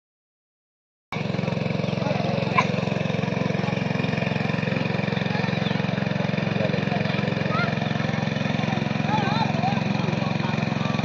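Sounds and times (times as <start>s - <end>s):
small engine running: 1.1s - 11.0s.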